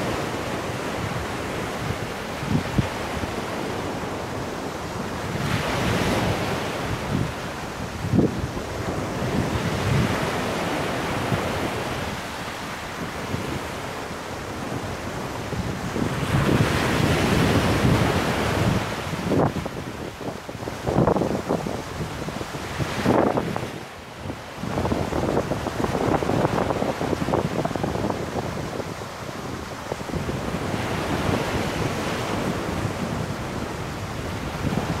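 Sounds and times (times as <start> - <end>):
surf on pebble beach: 0.0 - 35.0
wind buffeting microphone: 0.0 - 35.0.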